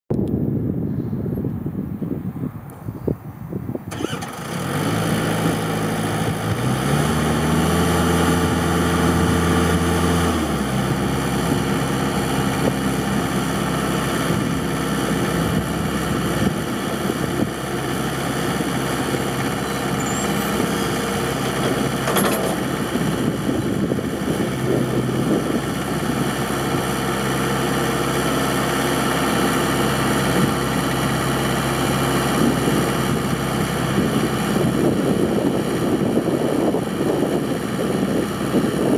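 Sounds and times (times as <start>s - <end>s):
tractor diesel engine running: 3.9s - 38.9s.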